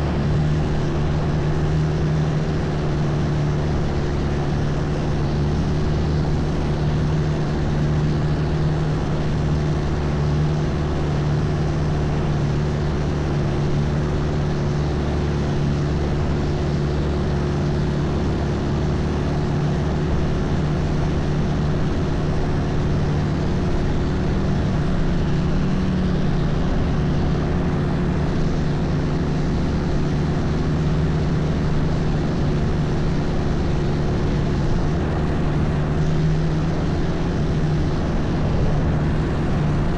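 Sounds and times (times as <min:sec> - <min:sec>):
boat engine drone: 0:00.0 - 0:39.9.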